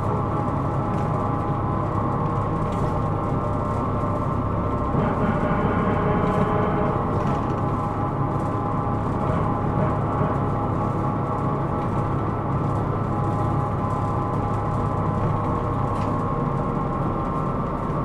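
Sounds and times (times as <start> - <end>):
bus engine hum: 0.0 - 18.0.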